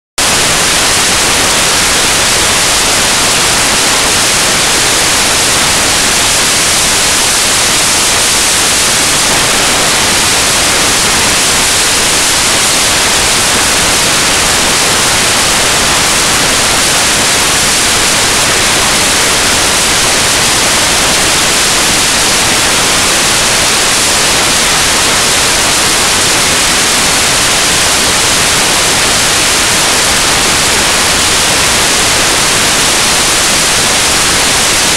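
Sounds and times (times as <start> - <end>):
static hiss: 0.2 - 34.9.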